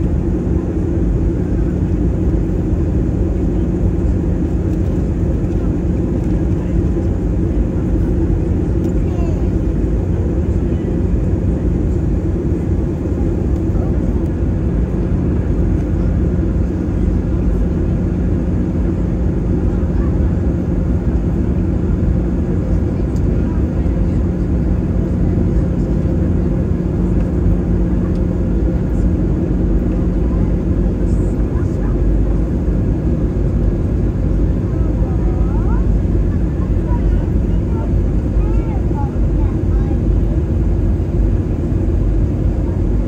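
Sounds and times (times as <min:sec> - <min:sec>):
airliner engines rumbling: 0:00.0 - 0:43.0
constant low hum: 0:00.0 - 0:43.0.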